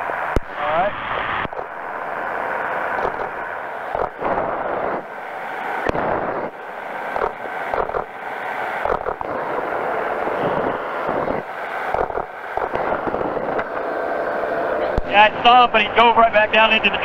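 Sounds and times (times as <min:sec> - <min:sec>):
powered parachute engine running: 0:00.0 - 0:17.0.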